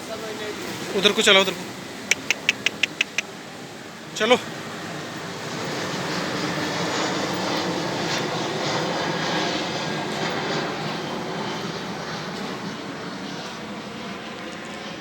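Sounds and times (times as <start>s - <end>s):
aircraft passing overhead: 0.0s - 15.0s.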